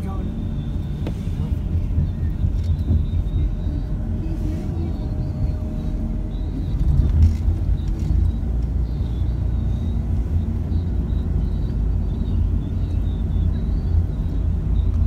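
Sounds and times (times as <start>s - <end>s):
car driving interior rumble: 0.0s - 15.0s.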